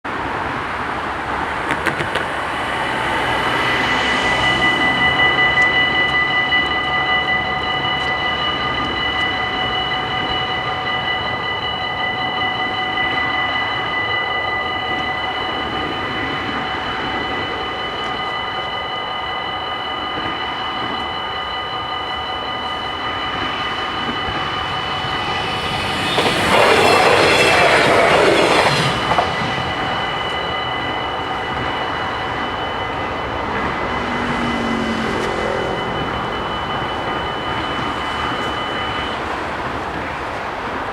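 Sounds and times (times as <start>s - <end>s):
level-crossing warning bells: 0.0s - 40.9s
train rushing past: 0.1s - 40.9s.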